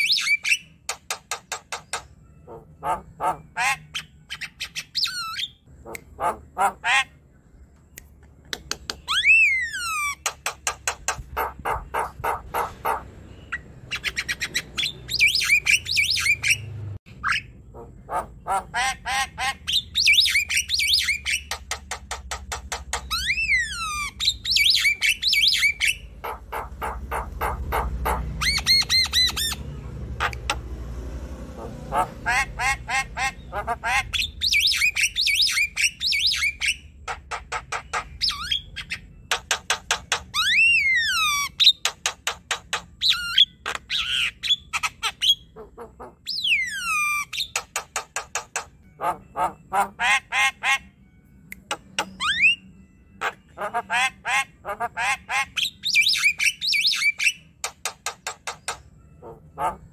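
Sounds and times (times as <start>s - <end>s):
bird chattering song: 0.0s - 30.7s, 31.6s - 50.9s, 51.5s - 59.9s.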